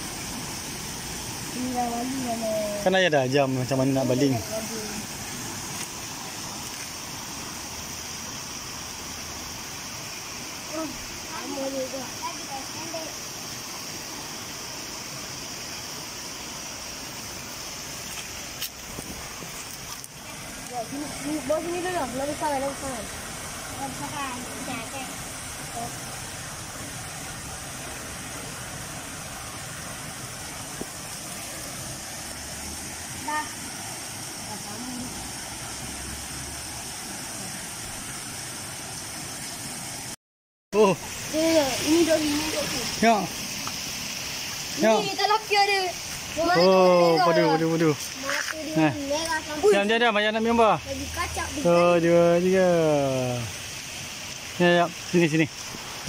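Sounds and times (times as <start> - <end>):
high-pitched hiss: 0.0 - 40.2, 40.8 - 56.0
outdoor background noise: 0.0 - 40.2, 40.8 - 56.0
water rushing in a drain: 0.0 - 40.2, 40.8 - 56.0.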